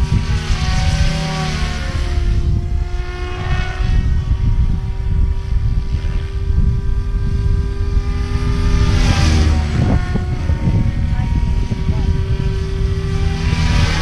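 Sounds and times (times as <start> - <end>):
low rumble: 0.0 - 14.0
rc helicopter motor whine: 0.0 - 14.0.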